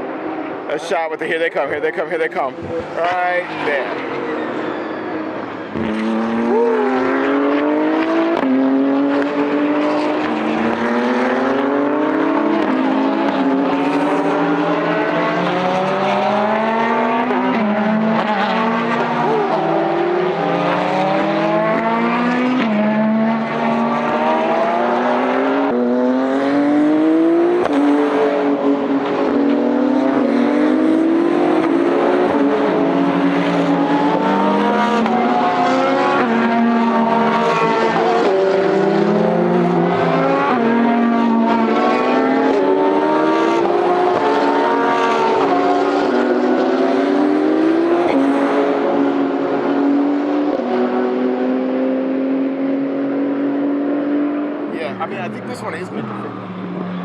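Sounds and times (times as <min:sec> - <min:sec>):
race car engines at full throttle: 0:00.0 - 0:57.0.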